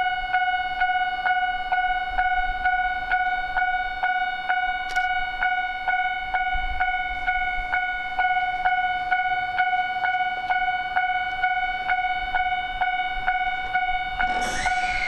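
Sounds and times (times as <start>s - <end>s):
level crossing alarm bell: 0.0s - 15.0s.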